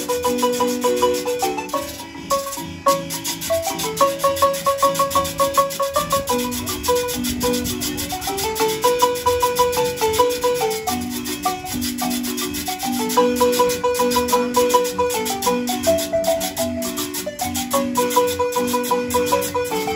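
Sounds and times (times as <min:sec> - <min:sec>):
acoustic guitars: 0:00.0 - 0:19.9
marimba melody: 0:00.0 - 0:19.9
metal scraper rhythm: 0:00.0 - 0:19.9.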